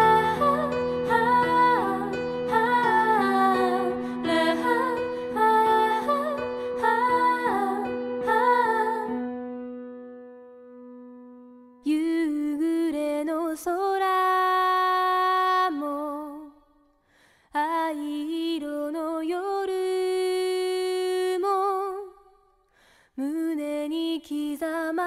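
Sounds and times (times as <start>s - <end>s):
woman singing slow song: 0.0s - 9.2s, 11.8s - 16.6s, 17.5s - 22.3s, 23.2s - 25.0s.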